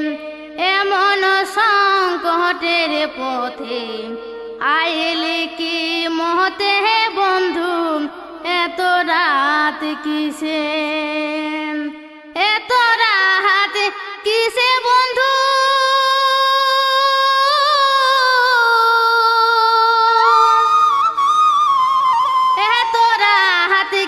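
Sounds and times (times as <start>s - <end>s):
woman singing folk song: 0.0s - 20.8s, 22.1s - 24.0s.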